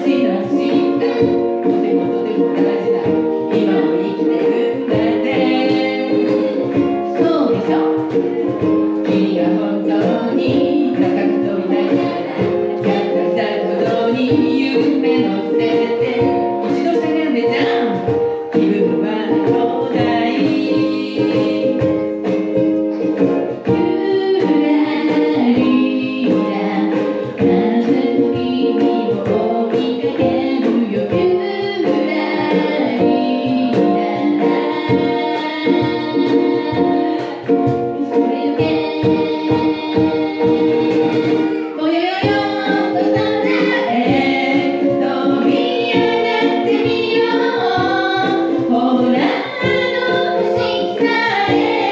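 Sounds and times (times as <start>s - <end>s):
people singing together: 0.0s - 51.9s
strummed ukuleles: 0.0s - 51.9s.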